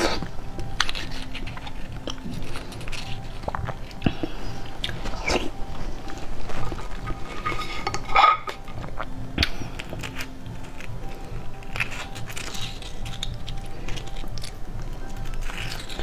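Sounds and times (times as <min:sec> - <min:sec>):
spoon scraping shell: 0:00.0 - 0:09.1, 0:09.7 - 0:16.0
wet chewing sounds: 0:00.0 - 0:16.0.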